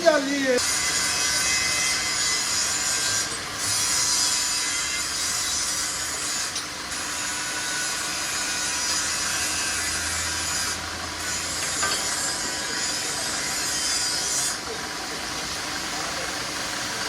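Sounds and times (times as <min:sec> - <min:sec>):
metal machining grinding hiss: 0:00.1 - 0:17.0.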